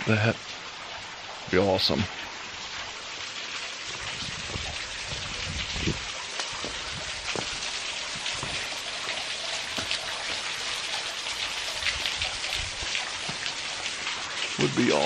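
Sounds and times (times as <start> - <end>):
water drips and spatters: 0.0 - 15.0
waterfall splashing onto rock: 0.0 - 15.0.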